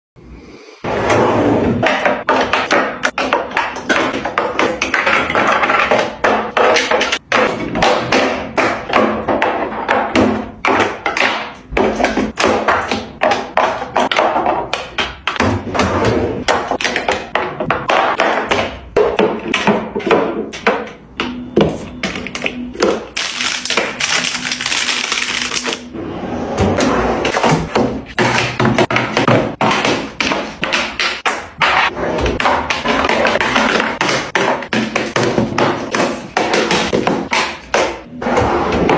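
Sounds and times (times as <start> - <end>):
containers knocking on fridge shelves: 1.8 - 24.7, 26.7 - 38.9.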